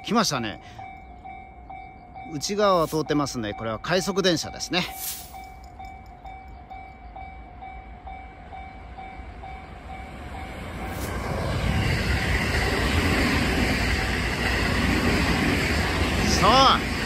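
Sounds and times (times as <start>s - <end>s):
electric train passing: 0.0s - 17.0s
level-crossing warning bell ringing: 0.0s - 17.0s.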